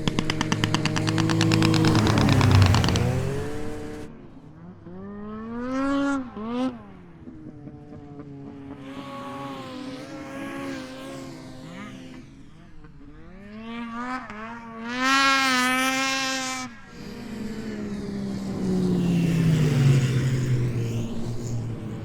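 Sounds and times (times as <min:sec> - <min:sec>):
snowmobile engines revving: 0:00.0 - 0:22.0.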